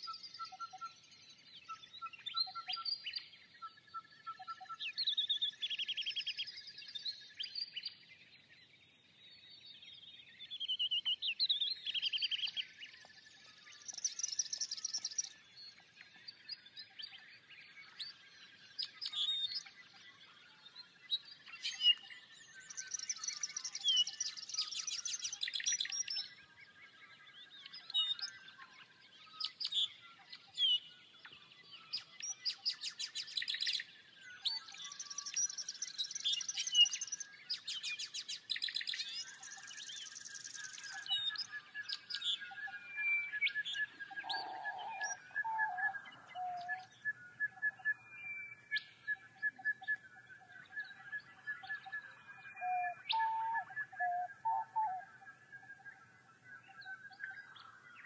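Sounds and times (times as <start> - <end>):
birds chirping and calling: 10.7 - 58.0.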